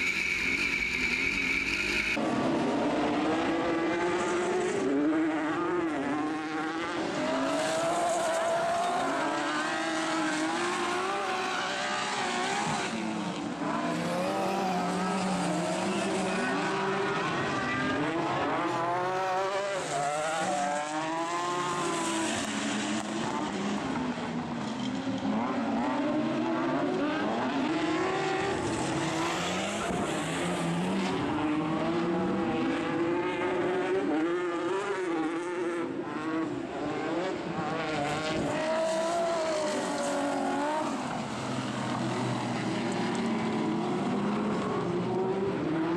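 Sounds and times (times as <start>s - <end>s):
racing buggy engines revving: 0.0s - 45.9s.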